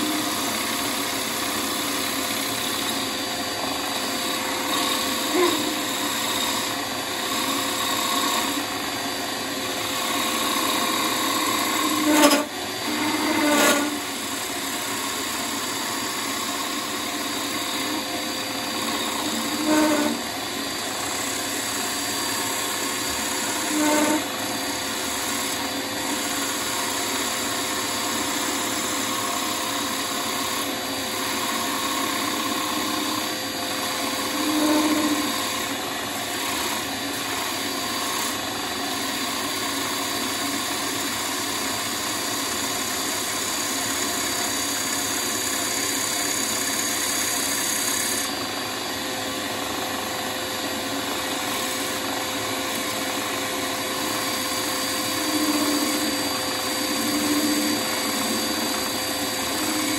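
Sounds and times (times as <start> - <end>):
turning tool hissing on wood: 0.0 - 38.4, 39.2 - 59.9
lathe motor hum: 0.0 - 59.9.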